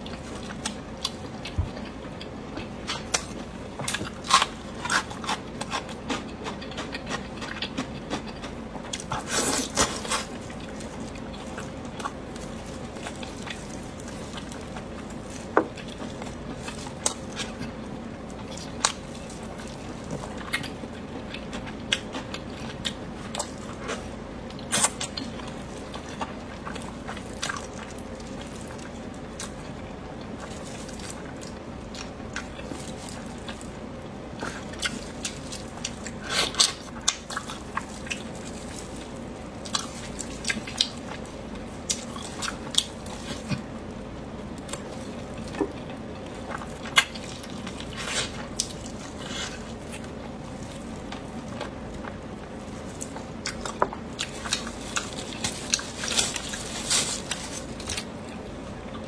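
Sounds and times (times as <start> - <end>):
biting and wet chewing: 0.0 - 59.0.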